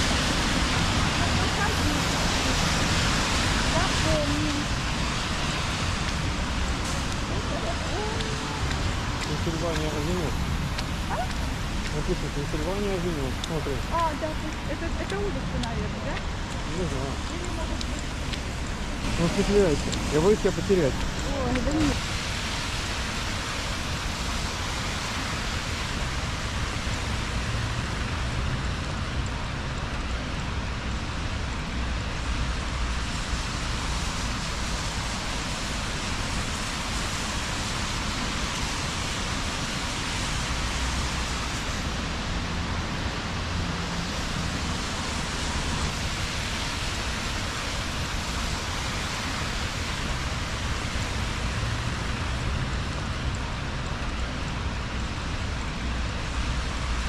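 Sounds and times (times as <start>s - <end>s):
rain on wet street: 0.0s - 57.0s
traffic rumble: 0.0s - 57.0s.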